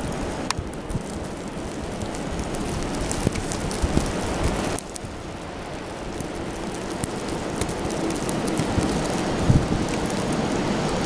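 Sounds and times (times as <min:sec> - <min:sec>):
hiss of wind-driven snow: 0:00.0 - 0:11.0
snowflakes ticking on camera: 0:00.0 - 0:11.0
wind blowing across microphone: 0:00.0 - 0:11.0.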